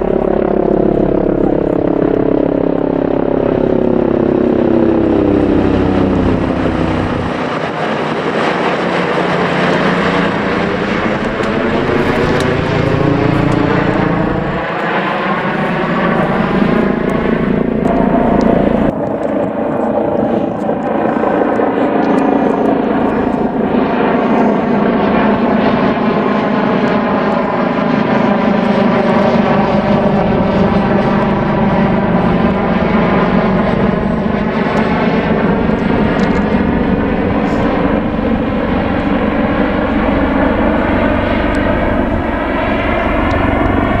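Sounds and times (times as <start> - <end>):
helicopter rotor and turbine noise: 0.0 - 44.0.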